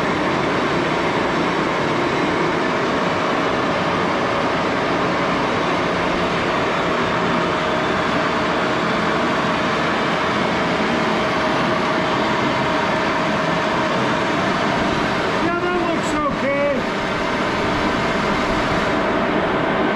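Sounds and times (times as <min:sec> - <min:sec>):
lathe whirring and whining: 0:00.0 - 0:19.9.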